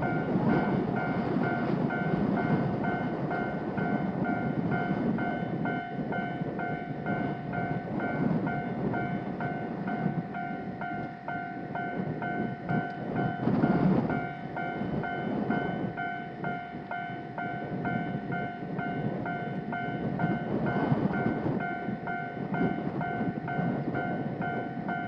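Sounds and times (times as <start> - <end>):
level crossing warning bell: 0.0 - 25.0
passing train rumble: 0.0 - 25.0.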